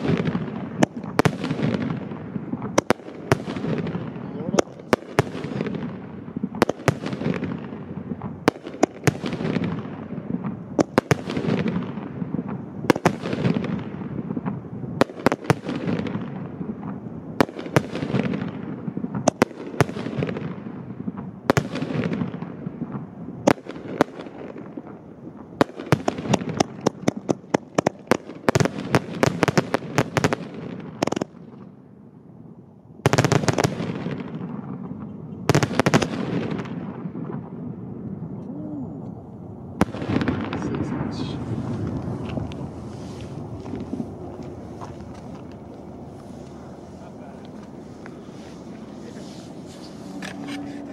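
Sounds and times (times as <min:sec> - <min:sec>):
fireworks bangs and booms: 0:00.0 - 0:49.7.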